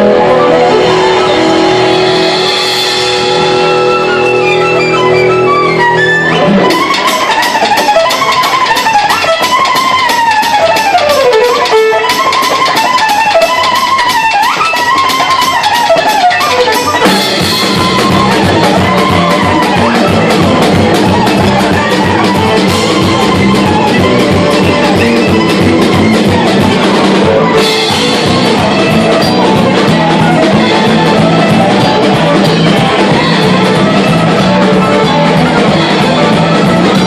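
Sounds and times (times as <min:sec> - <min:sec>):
bass and drums beat: 0:00.0 - 0:37.0
fast string instruments: 0:00.0 - 0:37.0
sliding lead melody: 0:00.0 - 0:37.0.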